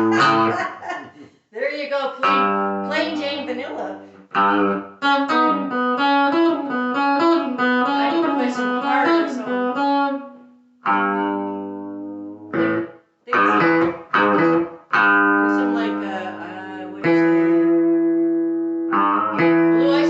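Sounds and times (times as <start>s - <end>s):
electric guitar notes and chords: 0.0s - 0.6s, 2.2s - 3.1s, 4.0s - 20.0s.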